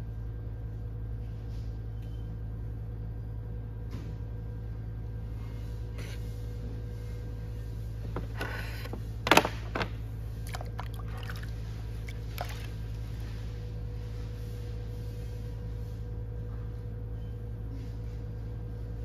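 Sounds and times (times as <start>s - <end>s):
pottery wheel motor humming: 0.0s - 19.0s.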